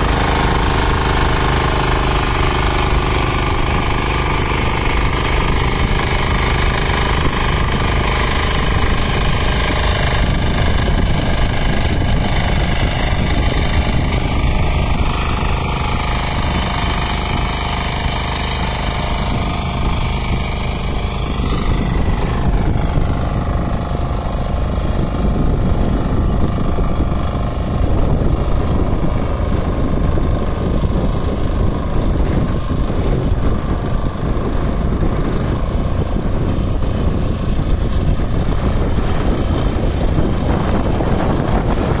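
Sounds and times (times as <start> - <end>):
diesel engine running under load: 0.0 - 42.0
rotary tines tilling soil: 0.0 - 42.0.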